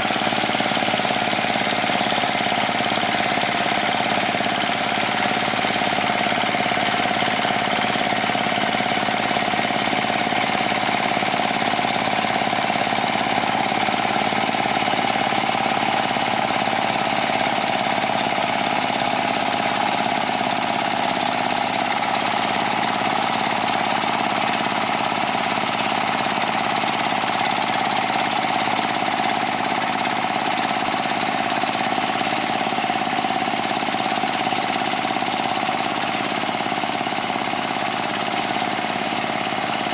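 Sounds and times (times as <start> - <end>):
diesel engine running under load: 0.0 - 39.9
rotary cutter through mud: 0.0 - 39.9.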